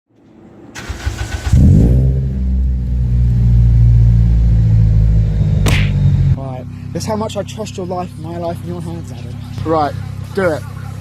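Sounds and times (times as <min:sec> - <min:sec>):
car engine idling: 0:00.8 - 0:11.0.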